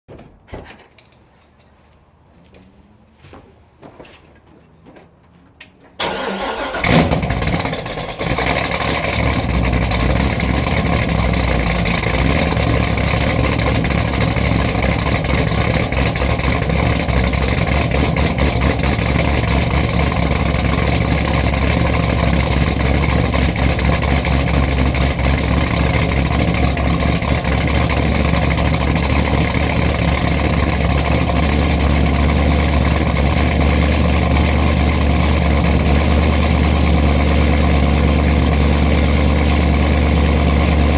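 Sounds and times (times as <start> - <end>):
car engine cold idle: 6.0 - 40.9.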